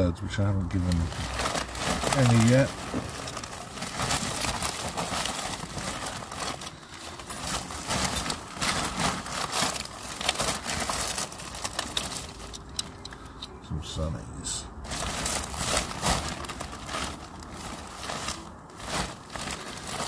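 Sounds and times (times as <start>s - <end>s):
plastic crinkling and rustling: 0.0s - 13.4s, 14.8s - 20.0s.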